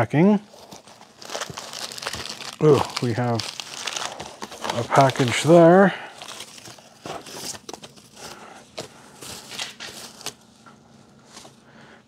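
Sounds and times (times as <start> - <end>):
cardboard rustling: 0.5 - 11.6.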